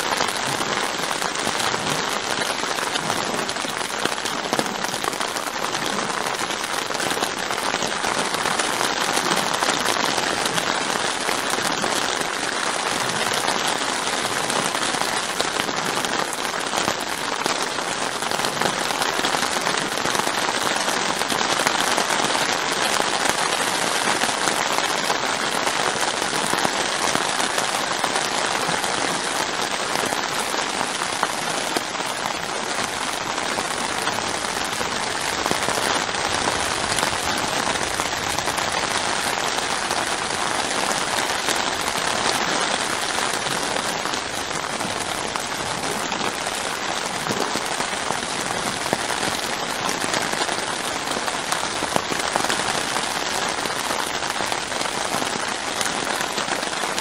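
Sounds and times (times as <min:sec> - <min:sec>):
heavy rain on a tent roof: 0:00.0 - 0:57.0.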